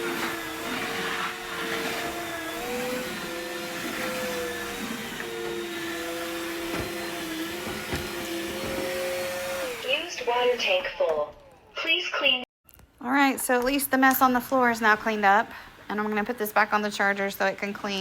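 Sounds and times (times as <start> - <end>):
wet vacuum mop motor whine: 0.0 - 11.6, 14.1 - 18.0.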